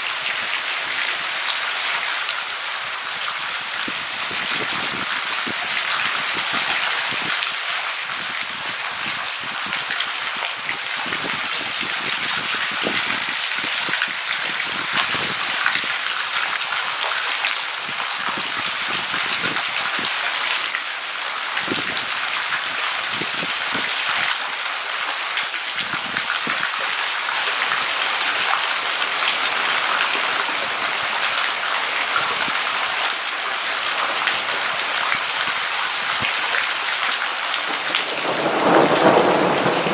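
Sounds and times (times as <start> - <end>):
heavy rain hissing: 0.0 - 39.9
raindrops hitting close by: 0.0 - 39.9.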